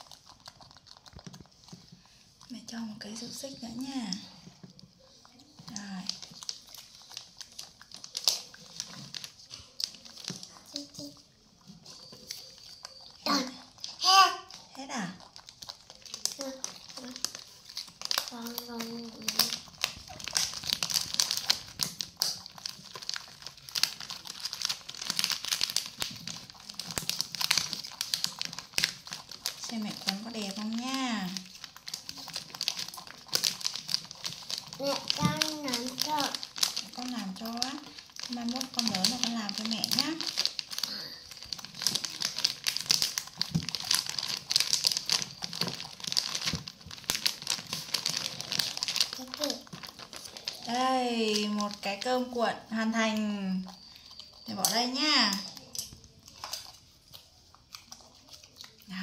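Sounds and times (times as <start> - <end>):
plastic packet crinkling: 0.0 - 59.0.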